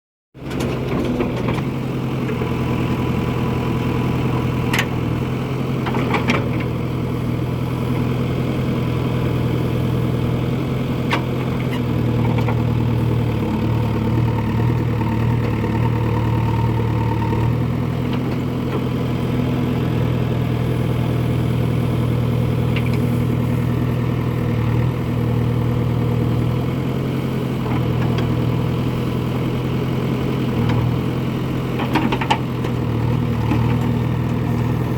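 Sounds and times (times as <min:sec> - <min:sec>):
diesel engine running steadily: 0:00.4 - 0:34.9.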